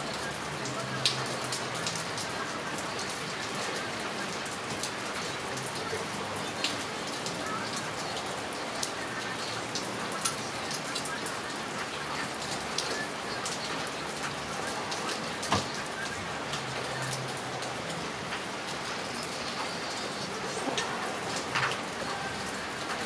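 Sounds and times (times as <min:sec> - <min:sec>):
heavy rain falling: 0:00.0 - 0:23.0
raindrops ticking on surface: 0:00.0 - 0:23.0.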